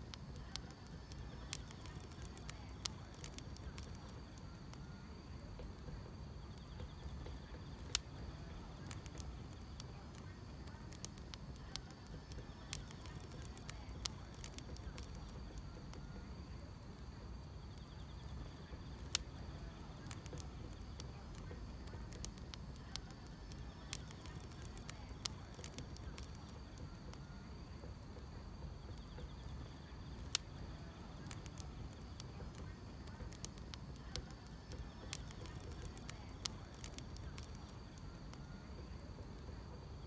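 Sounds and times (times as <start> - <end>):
faint insect chirring: 0.0 - 40.0
wood fire crackling and popping: 0.0 - 40.0.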